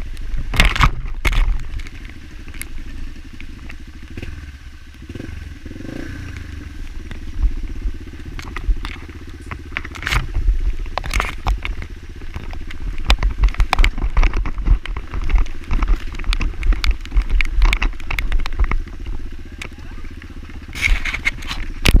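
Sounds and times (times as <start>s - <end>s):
sharp knocks and crackles: 0.0s - 5.6s, 6.2s - 22.0s
motorcycle engine running: 0.0s - 22.0s.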